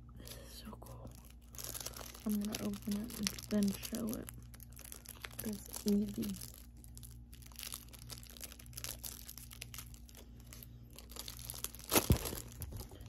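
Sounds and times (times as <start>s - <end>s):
plastic wrapper crinkling: 0.8s - 13.0s.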